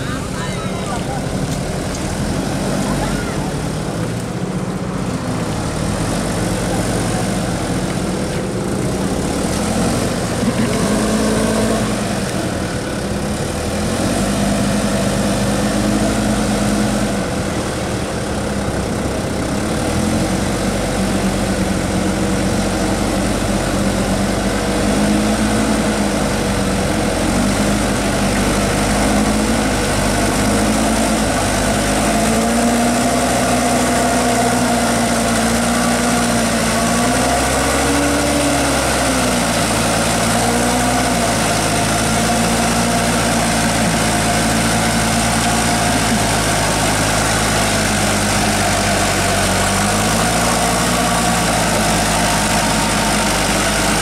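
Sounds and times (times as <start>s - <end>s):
diesel truck engine in low gear: 0.0s - 54.0s.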